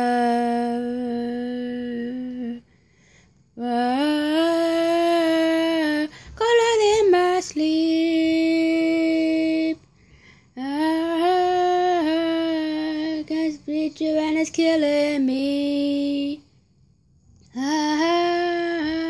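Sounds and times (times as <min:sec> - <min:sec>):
woman singing unaccompanied: 0:00.0 - 0:02.7, 0:03.5 - 0:09.9, 0:10.5 - 0:16.6, 0:17.4 - 0:19.0.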